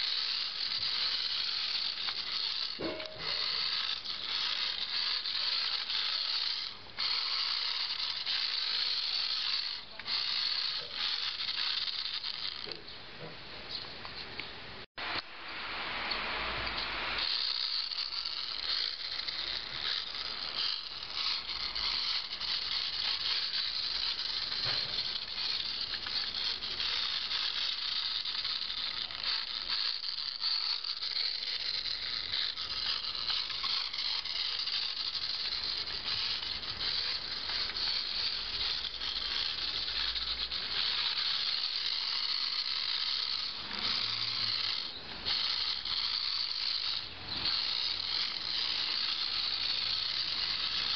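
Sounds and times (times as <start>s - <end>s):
toy car motor whirring: 0.0s - 12.9s, 16.7s - 50.9s.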